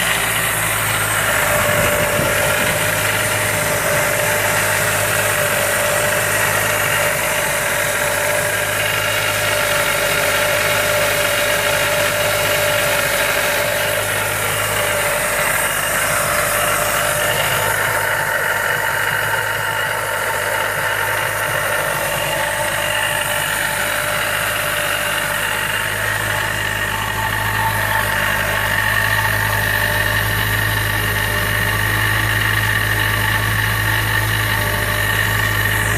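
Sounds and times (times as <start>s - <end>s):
car engine running: 0.0s - 35.9s
supercharger whine: 0.0s - 35.9s.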